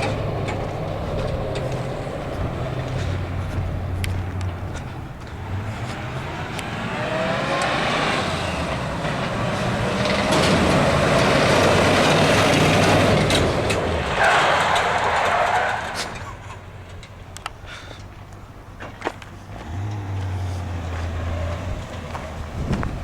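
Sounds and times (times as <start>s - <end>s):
truck engine accelerating: 0.0s - 23.0s.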